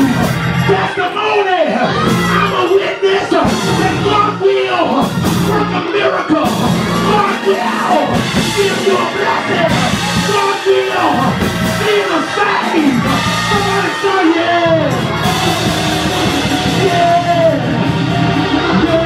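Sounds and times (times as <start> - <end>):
live gospel band music: 0.0 - 19.0
man shouting and singing: 0.0 - 19.0.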